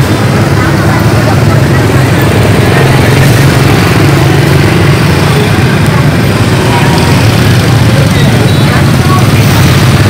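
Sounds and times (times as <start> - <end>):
motor scooter engine running: 0.0 - 10.0.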